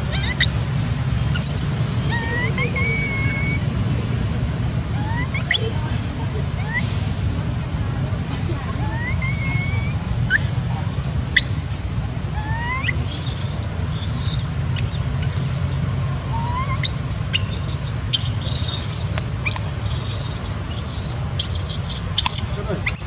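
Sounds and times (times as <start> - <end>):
young monkey squealing: 0.0 - 3.6, 4.9 - 6.9, 8.7 - 11.7, 12.4 - 23.0
steady low rumble: 0.0 - 23.0.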